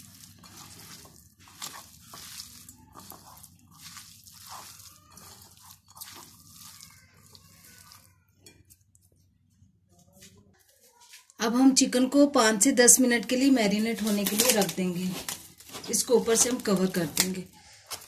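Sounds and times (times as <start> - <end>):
hand squishing wet marinade: 0.0 - 10.3, 13.2 - 18.0.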